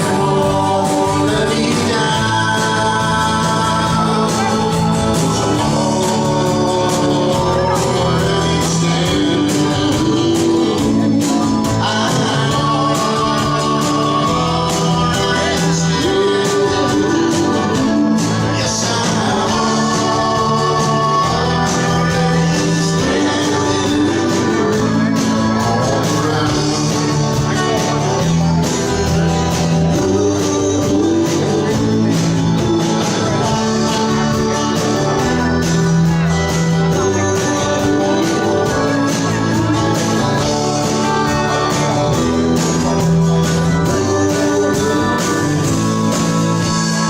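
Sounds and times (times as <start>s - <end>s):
drums: 0.0s - 47.0s
guitar: 0.0s - 47.0s
person singing: 0.0s - 47.0s.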